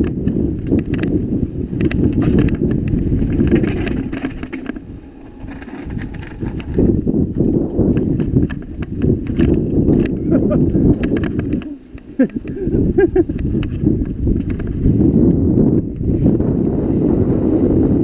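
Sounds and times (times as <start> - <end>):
bike rattling over cobblestones: 0.0 - 18.0
tyre rumble: 0.0 - 18.0
wind on microphone: 0.0 - 18.0.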